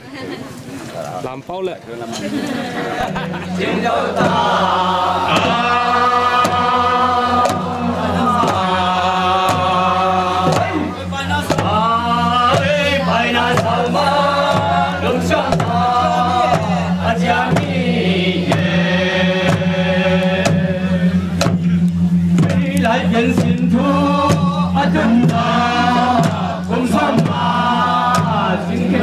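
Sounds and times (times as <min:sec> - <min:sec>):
group chanting a song: 0:02.6 - 0:29.0
hand-beaten barrel drums: 0:03.0 - 0:29.0.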